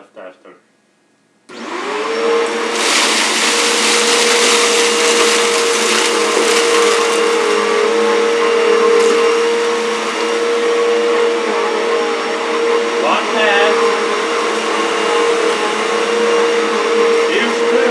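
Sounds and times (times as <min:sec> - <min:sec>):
upright vacuum cleaner running: 0:01.5 - 0:17.9.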